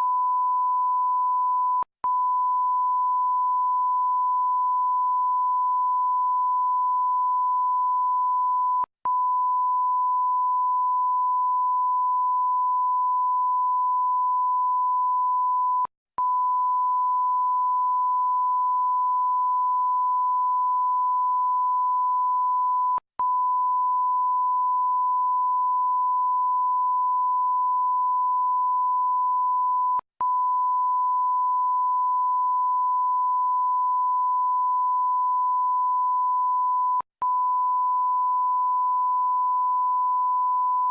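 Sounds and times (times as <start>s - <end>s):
censor bleep tone: 0.0s - 40.9s.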